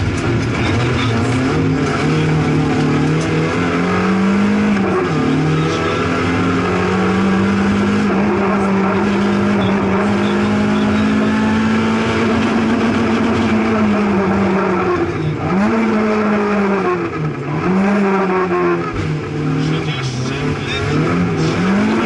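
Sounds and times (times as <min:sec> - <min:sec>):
car engine revving from inside: 0:00.6 - 0:22.0.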